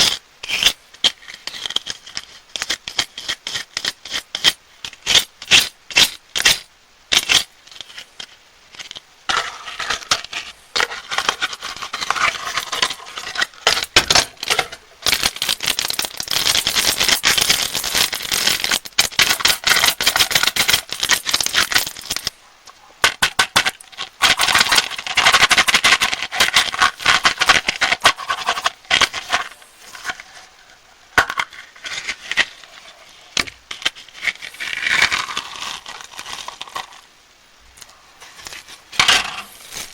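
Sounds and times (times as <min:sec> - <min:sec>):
plastic wrappers crinkling: 0:07.2 - 0:37.1, 0:37.7 - 0:39.9.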